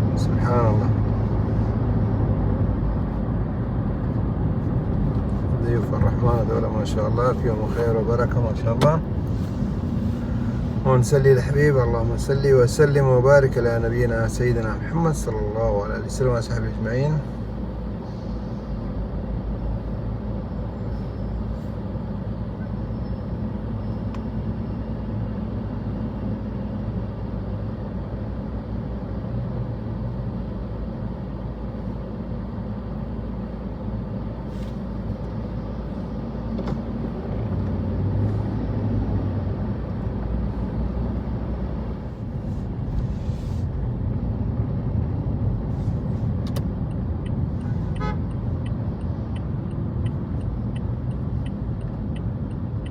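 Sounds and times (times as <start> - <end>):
vehicle engines passing: 0.0 - 52.9.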